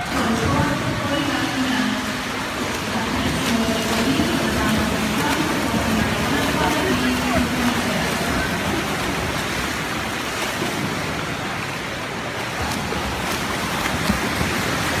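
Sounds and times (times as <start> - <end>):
swimmers splashing: 0.0 - 15.0.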